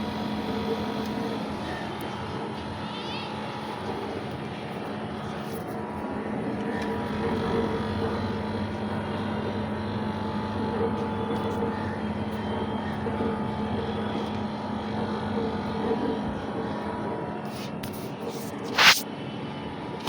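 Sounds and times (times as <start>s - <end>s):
fan rushing: 0.0s - 18.0s
air conditioner hum: 0.0s - 20.0s.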